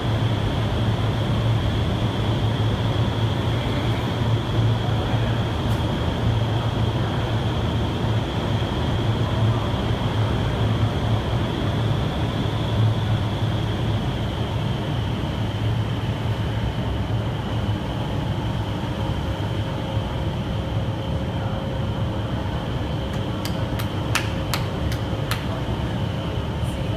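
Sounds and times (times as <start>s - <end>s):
rush of air from fans: 0.0s - 26.9s.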